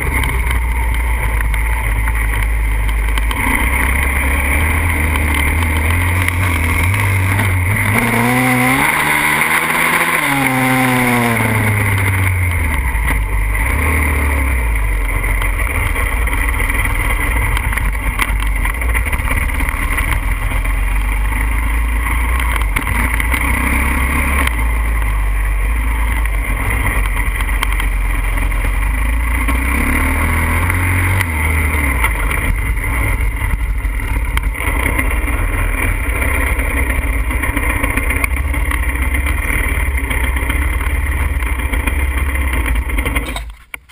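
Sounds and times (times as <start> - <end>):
pit bike engine revving: 0.0 - 43.8.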